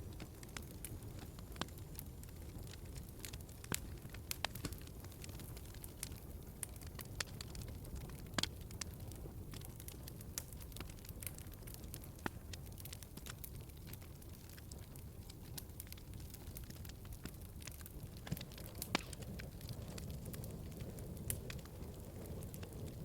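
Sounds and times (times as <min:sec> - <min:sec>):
fire popping and snapping: 0:00.0 - 0:23.0
wood fire crackling: 0:00.0 - 0:23.0.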